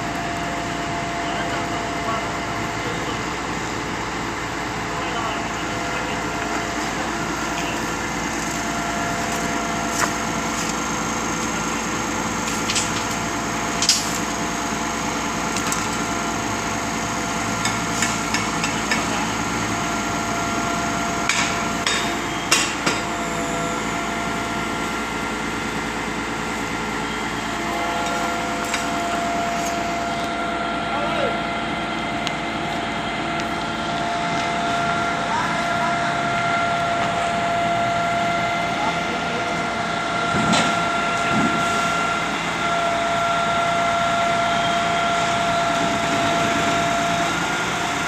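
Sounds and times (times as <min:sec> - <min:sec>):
pump engine running: 0:00.0 - 0:48.0.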